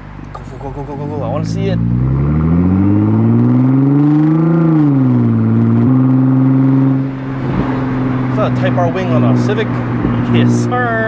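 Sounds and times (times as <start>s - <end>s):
car engine revving under load: 0.0s - 11.0s.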